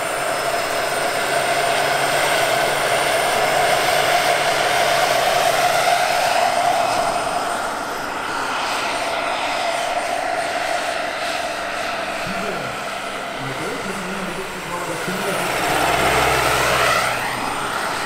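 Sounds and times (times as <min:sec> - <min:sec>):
helicopter rotor noise: 0:00.0 - 0:18.0
model helicopter turbine whine: 0:00.0 - 0:18.0.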